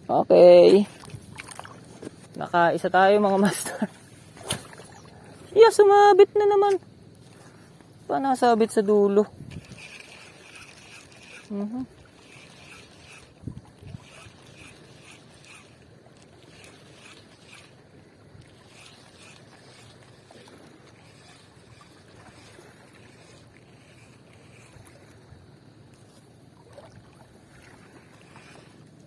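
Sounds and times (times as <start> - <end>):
soft regular pulsing: 0.0 - 29.0
wind and water hiss: 0.0 - 29.0.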